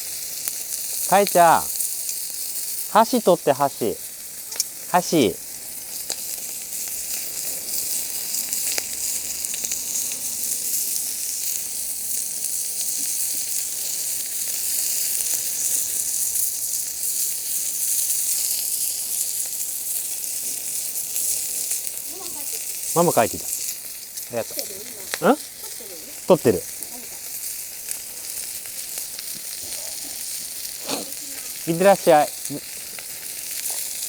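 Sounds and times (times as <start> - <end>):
chicken sizzling on a griddle: 0.0 - 34.0.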